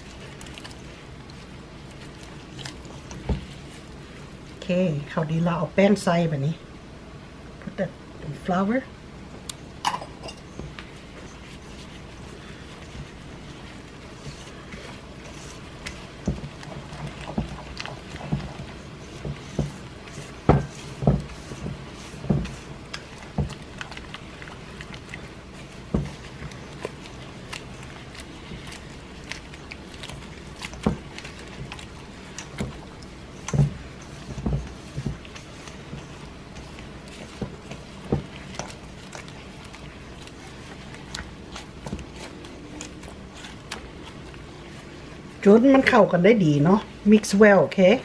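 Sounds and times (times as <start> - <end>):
hands kneading wet dough squelching: 0.0 - 6.6, 10.4 - 48.0.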